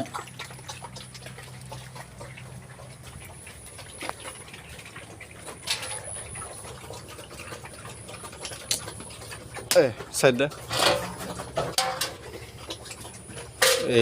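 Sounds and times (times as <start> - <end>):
pigs chewing and smacking: 0.0 - 14.0.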